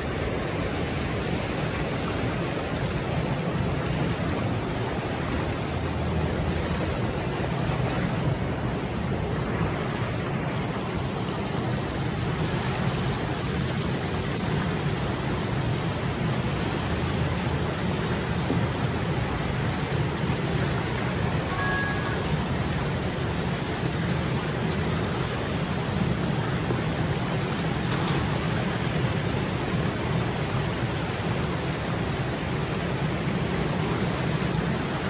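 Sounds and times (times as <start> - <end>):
turbulent water rushing: 0.0 - 35.0.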